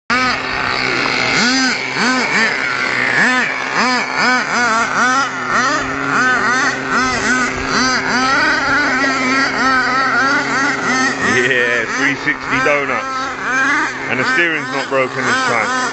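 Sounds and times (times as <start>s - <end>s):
small engine revving: 0.1s - 15.9s.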